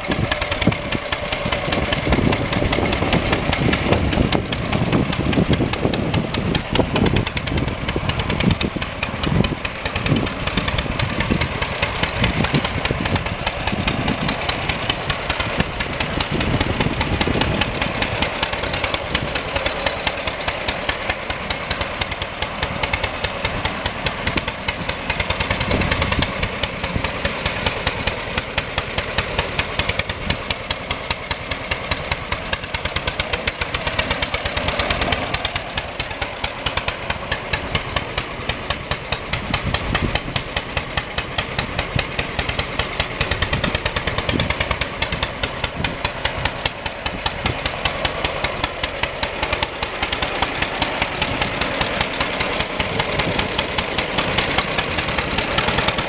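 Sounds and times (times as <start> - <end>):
tractor engine exhaust pops: 0.0 - 56.0.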